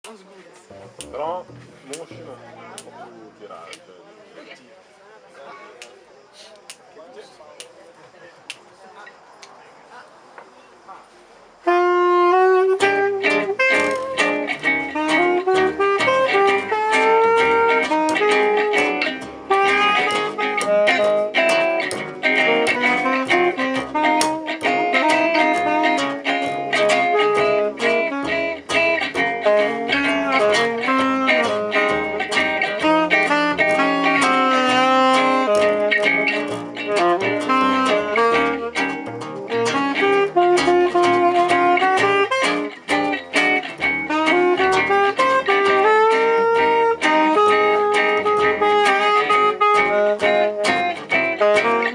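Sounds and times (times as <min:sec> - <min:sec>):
jazz band with guitar: 0:00.6 - 0:03.9, 0:11.6 - 0:51.9.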